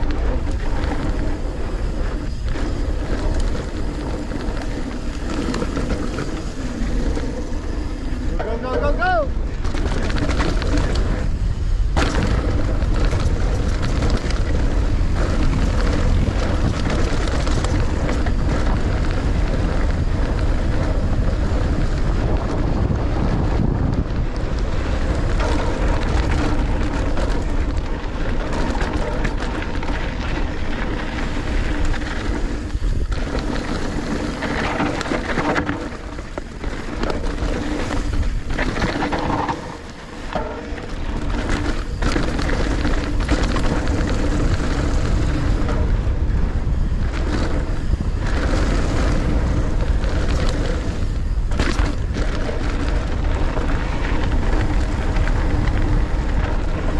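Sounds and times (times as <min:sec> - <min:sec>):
bike rattling and knocking: 0:00.0 - 0:56.9
tyres on loose dirt: 0:00.0 - 0:56.9
wind buffeting microphone: 0:00.0 - 0:56.9.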